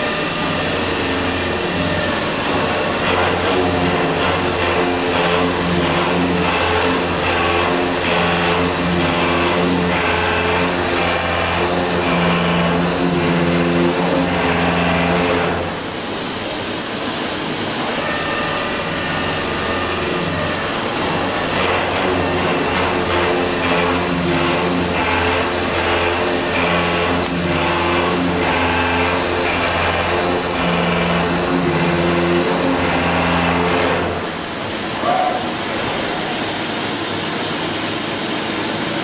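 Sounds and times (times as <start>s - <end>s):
milling machine hum with chatter: 0.0s - 39.0s.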